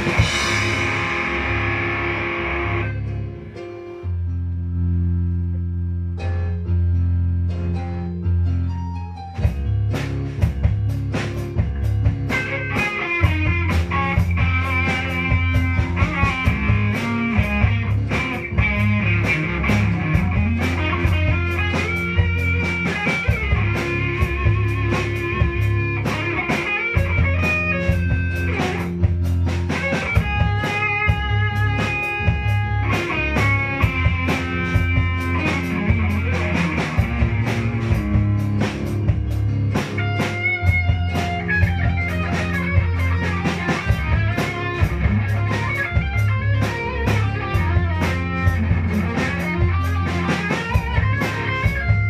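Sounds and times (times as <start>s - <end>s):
drum-kit beat: 0.0s - 3.8s, 9.4s - 52.0s
electric guitars: 0.0s - 5.2s, 9.4s - 52.0s
bass line: 0.0s - 52.0s.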